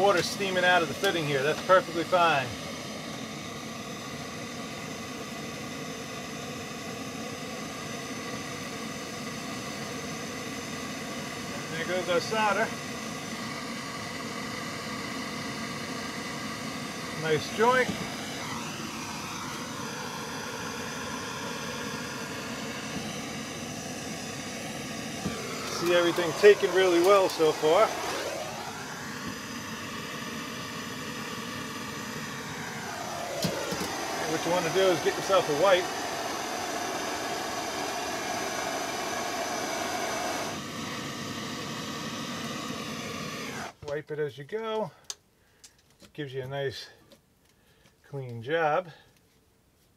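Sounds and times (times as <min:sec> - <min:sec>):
gas torch flame hissing: 0:00.0 - 0:43.8.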